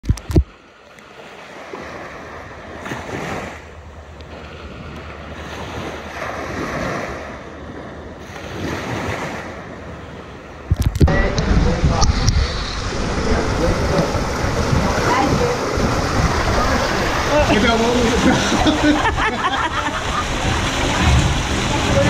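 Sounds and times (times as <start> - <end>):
small waves washing on beach: 0.0 - 22.0
wind rumbling on microphone: 1.7 - 22.0.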